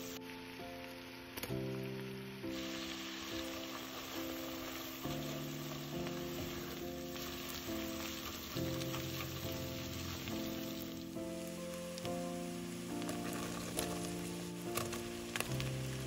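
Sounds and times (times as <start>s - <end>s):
background music of held chords: 0.0s - 16.0s
garlic and onion sizzling in oil: 0.0s - 16.0s
spatula stirring in pot: 2.6s - 16.0s.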